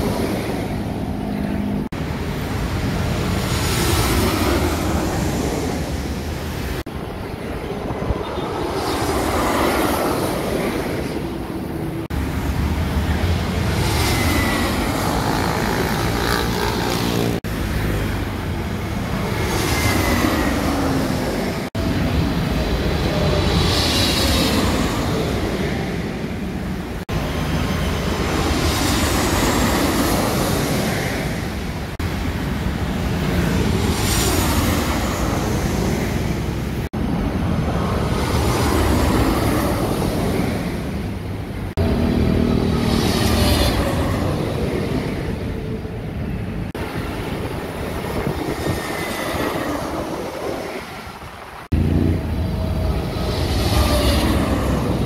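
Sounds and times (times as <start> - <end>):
jet airliner passing overhead: 0.0 - 55.0
road traffic: 0.0 - 55.0.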